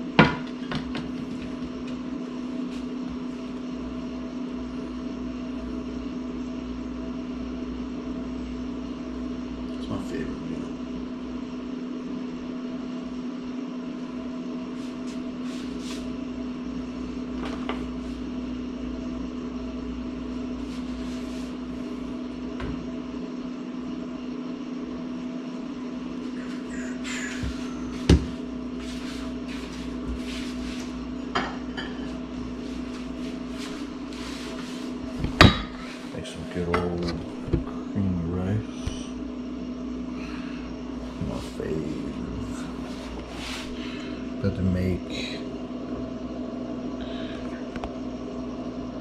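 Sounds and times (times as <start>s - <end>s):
steady mechanical hum: 0.0s - 49.0s.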